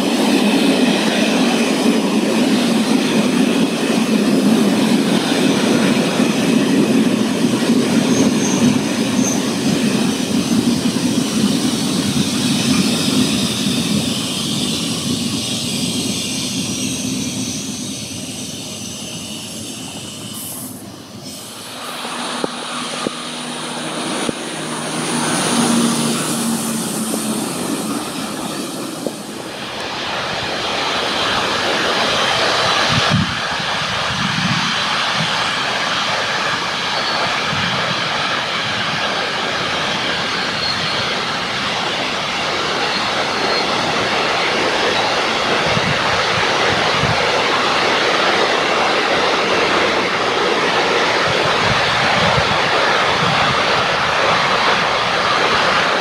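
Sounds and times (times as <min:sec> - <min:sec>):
train wheels rushing on rail: 0:00.0 - 0:56.0.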